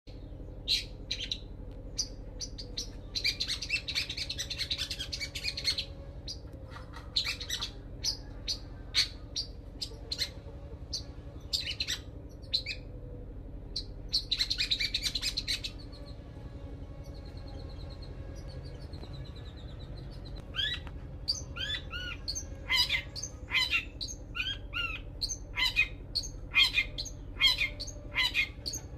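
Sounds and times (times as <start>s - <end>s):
bird singing chirps and trills: 0.1s - 28.9s
steady low hum: 0.1s - 28.9s.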